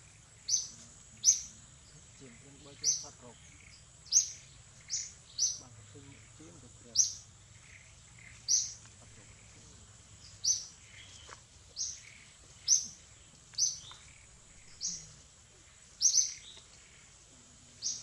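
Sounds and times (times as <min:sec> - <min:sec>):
bird chirping: 0:00.0 - 0:18.0
outdoor background noise: 0:00.0 - 0:18.0.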